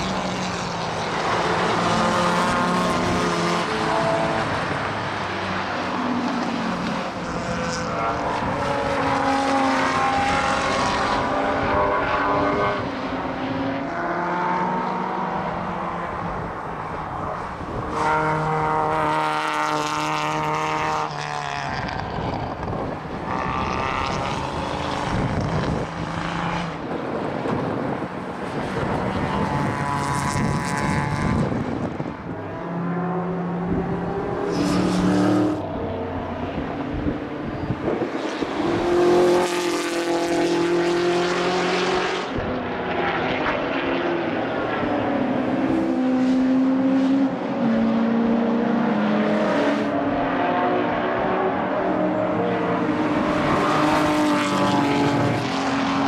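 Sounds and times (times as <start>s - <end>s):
race car engines revving past: 0.0s - 56.0s.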